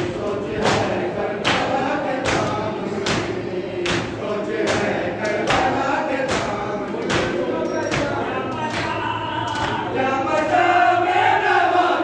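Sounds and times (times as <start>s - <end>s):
men chanting together: 0.0s - 12.0s.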